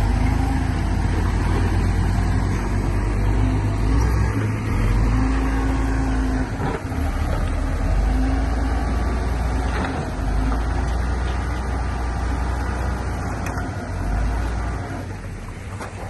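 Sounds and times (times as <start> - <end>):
heavy earthmoving machinery running: 0.0 - 16.0.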